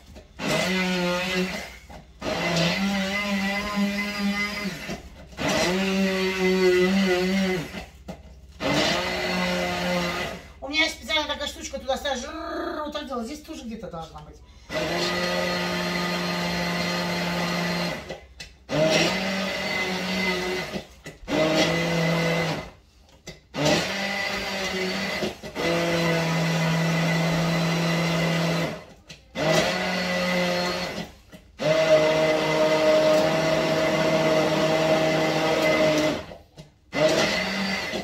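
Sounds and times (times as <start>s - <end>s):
kitchen blender motor pulsing: 0.0s - 10.6s, 14.6s - 38.0s.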